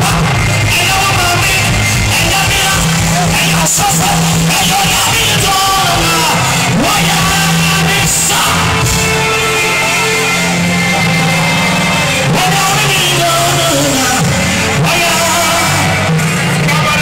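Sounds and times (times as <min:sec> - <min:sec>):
man singing over a pa: 0:00.0 - 0:10.6, 0:11.6 - 0:17.0
band playing gospel music: 0:00.0 - 0:17.0.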